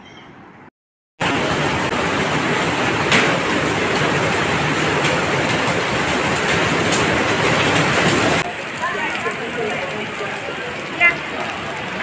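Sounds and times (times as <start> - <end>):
heavy rain splashing on water: 1.2 - 12.0.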